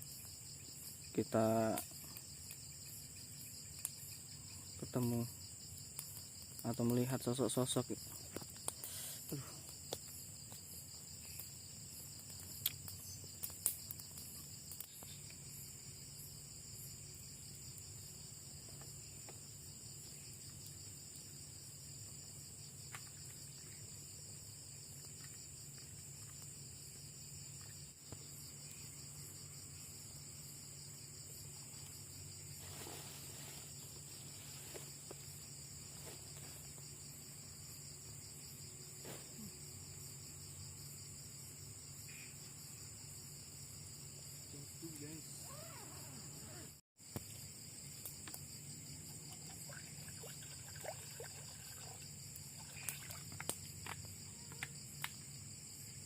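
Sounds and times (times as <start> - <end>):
crickets trilling: 0.0 - 56.0.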